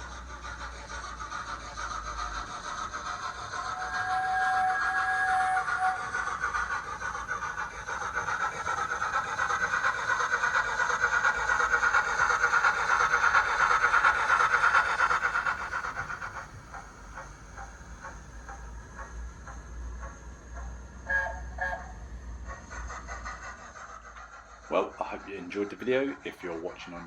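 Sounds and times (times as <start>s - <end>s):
steam locomotive chuffs from speaker: 0.0s - 27.0s.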